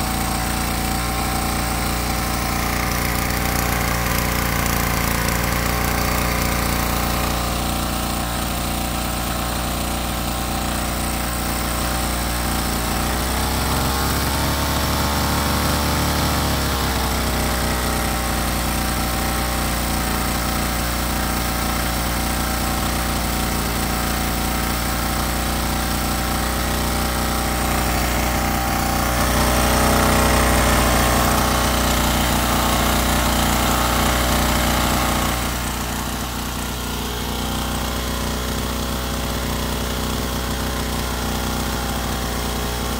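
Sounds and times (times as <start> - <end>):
two-stroke engine running: 0.0 - 42.9.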